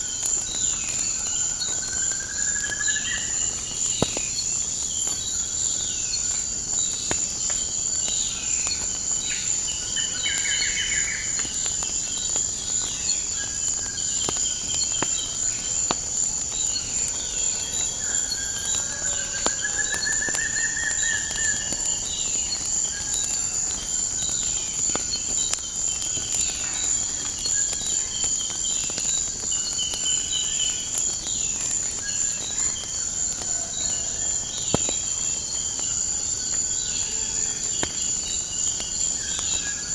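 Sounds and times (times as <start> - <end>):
crickets chirping: 0.0 - 39.9
fireplace fire crackling: 0.0 - 39.9.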